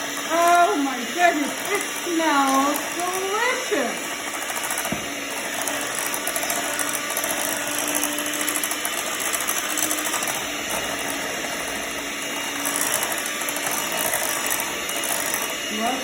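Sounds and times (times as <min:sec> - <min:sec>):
electric hand mixer running: 0:00.0 - 0:16.0.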